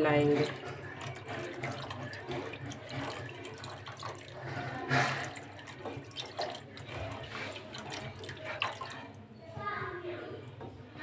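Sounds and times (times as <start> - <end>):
liquid splashing in a pot: 0.0 - 11.0
spoon swishing liquid: 0.0 - 11.0.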